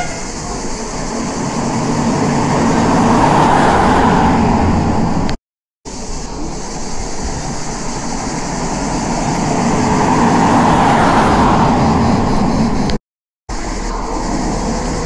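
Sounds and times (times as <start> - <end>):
road vehicles passing: 0.0 - 15.0.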